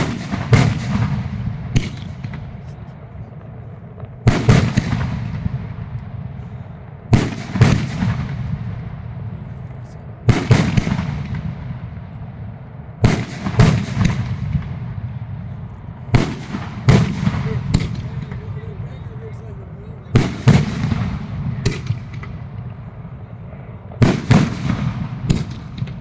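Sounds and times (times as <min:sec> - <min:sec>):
fireworks bangs and crackle: 0:00.0 - 0:26.0.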